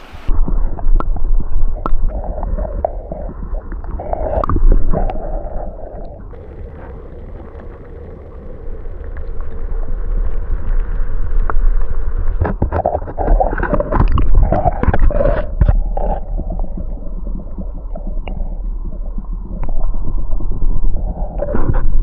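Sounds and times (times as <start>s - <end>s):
steady low rumble: 0.0s - 22.0s
water splashing and gurgling: 0.0s - 22.0s.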